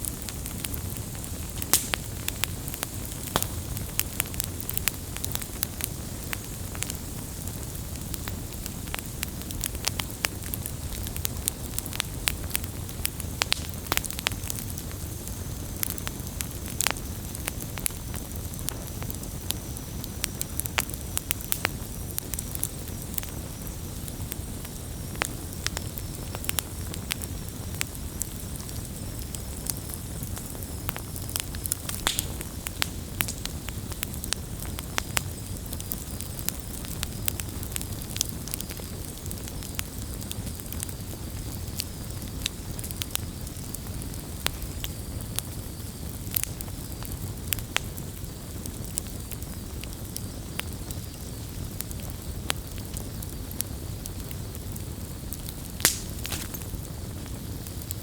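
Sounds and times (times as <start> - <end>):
flames rushing: 0.0 - 57.9
campfire crackling and popping: 0.0 - 58.0.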